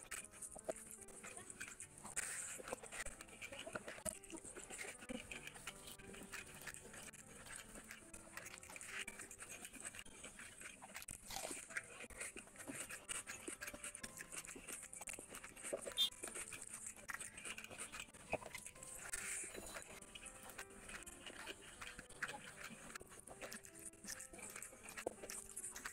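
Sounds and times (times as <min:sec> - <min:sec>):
fingers squelching rice: 0:00.0 - 0:25.9
wet chewing and lip-smacking: 0:00.0 - 0:25.9.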